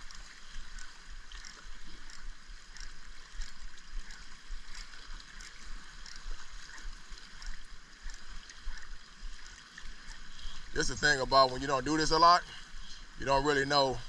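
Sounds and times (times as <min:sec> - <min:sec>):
small water splashes: 0:00.0 - 0:14.0
waves lapping against rocks: 0:00.0 - 0:14.0.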